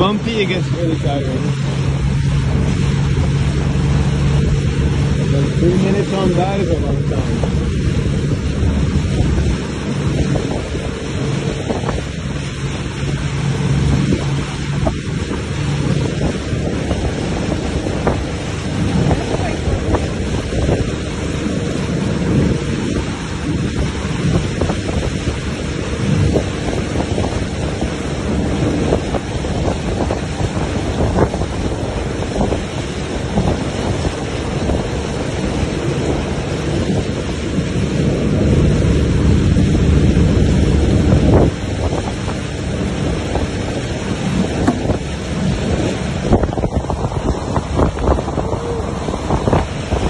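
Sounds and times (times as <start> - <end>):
churning boat wake: 0.0 - 50.0
motorboat engine drone: 0.0 - 50.0
rushing water: 0.0 - 50.0
wind buffeting microphone: 0.0 - 50.0.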